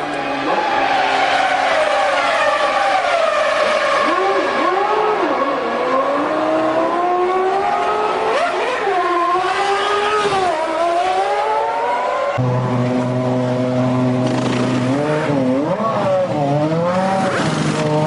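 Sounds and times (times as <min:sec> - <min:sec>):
racing engine at high revs: 0:00.0 - 0:18.0.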